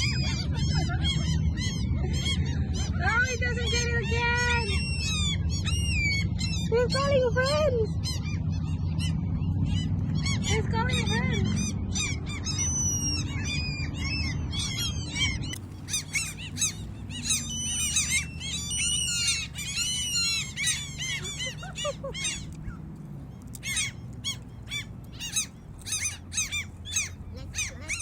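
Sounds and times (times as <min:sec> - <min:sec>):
gulls calling: 0:00.0 - 0:28.0.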